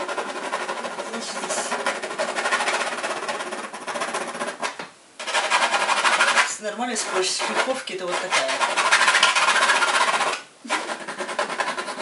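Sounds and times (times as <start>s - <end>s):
pencil scratching on canvas: 0.0s - 12.0s.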